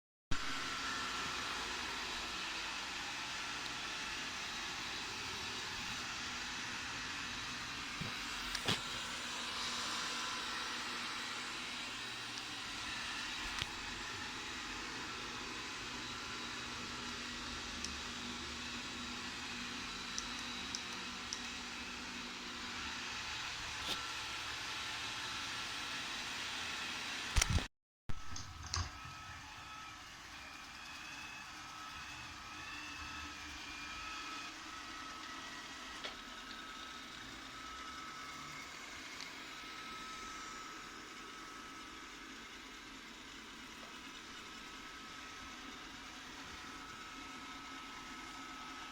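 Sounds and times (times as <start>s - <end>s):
robot vacuum cleaner whirring: 0.3s - 27.6s, 28.2s - 48.9s.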